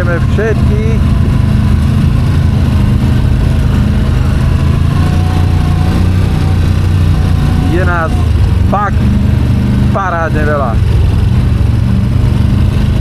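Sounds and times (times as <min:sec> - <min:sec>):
quad bike engine drone: 0:00.0 - 0:13.0.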